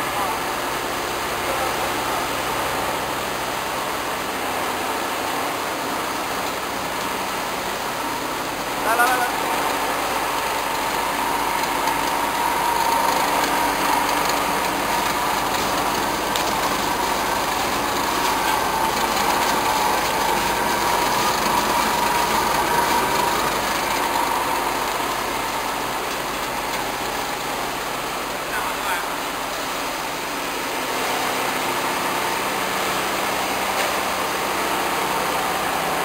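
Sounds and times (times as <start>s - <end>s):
machine noise with water churning: 0.0s - 36.0s
motors and conveyors running: 0.0s - 36.0s.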